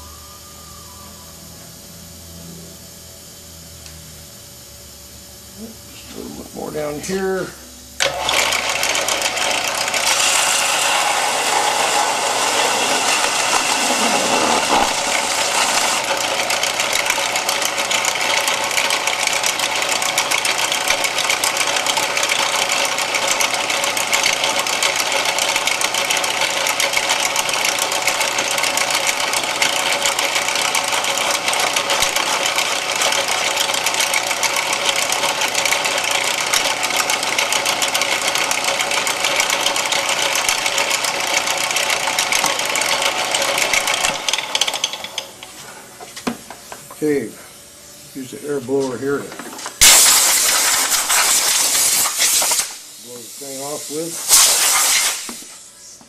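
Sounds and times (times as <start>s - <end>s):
belt sander whirring: 6.0s - 56.0s.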